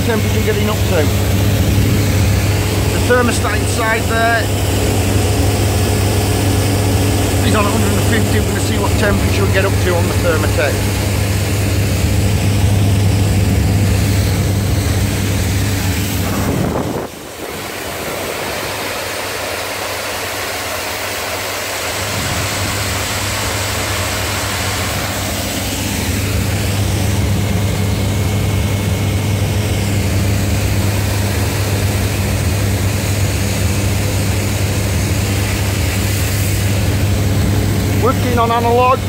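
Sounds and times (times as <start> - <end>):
pressure washer low hum: 0.0 - 39.0.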